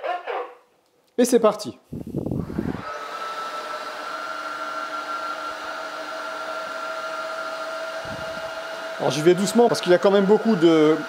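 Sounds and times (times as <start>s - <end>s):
suction motor whine: 2.0s - 11.0s.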